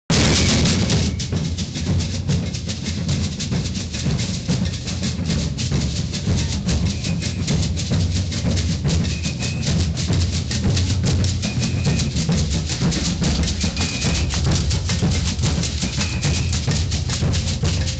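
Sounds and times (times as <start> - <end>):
deep booming bass drums: 0.1 - 17.9
fast crisp drum strokes: 0.1 - 17.9
percussion rattles: 0.1 - 17.9.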